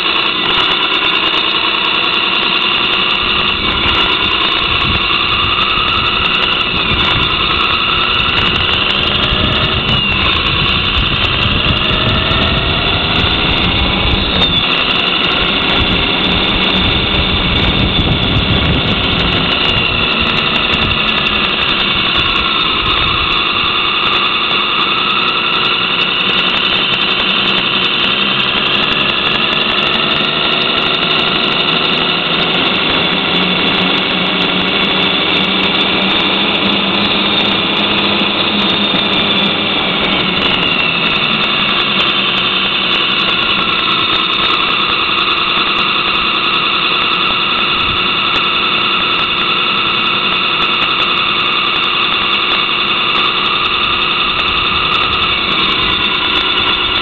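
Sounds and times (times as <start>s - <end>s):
electronic truck engine sound: 0.0s - 57.0s
turbo whine: 0.0s - 57.0s.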